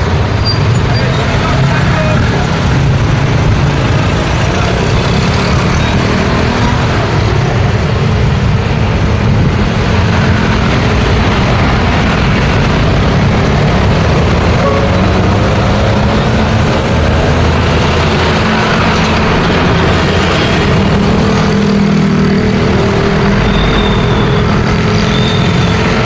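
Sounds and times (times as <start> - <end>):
vehicles passing close by: 0.0 - 26.0.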